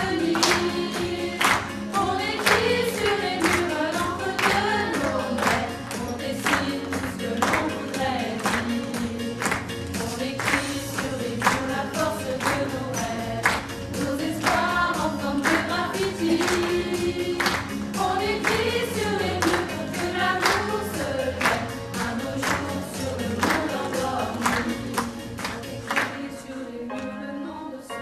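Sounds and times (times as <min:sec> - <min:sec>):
women and children singing: 0:00.0 - 0:28.0.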